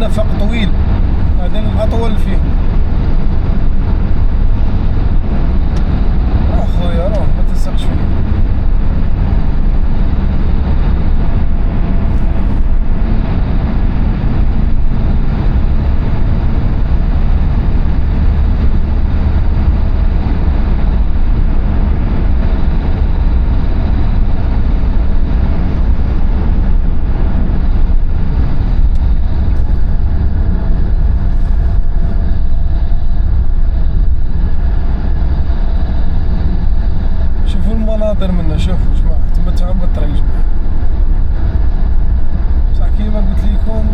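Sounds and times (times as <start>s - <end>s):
car driving through tunnel: 0.0s - 43.9s.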